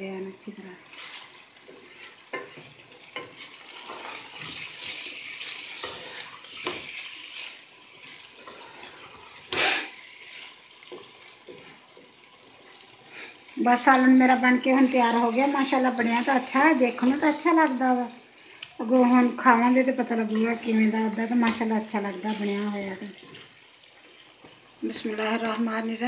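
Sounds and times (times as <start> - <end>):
curry sizzling in a pot: 0.0 - 26.0
wooden spoon scraping a pot: 0.9 - 17.6, 19.0 - 24.6.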